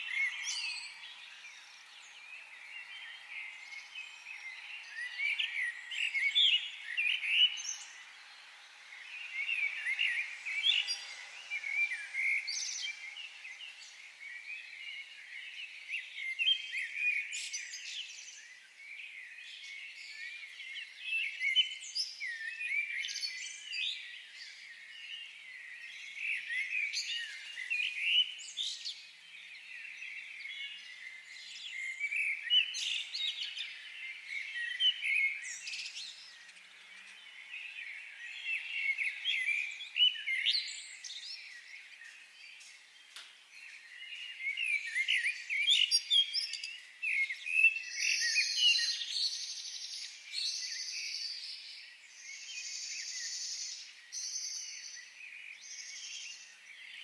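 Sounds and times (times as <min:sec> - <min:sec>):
birds singing: 0:00.0 - 0:57.0.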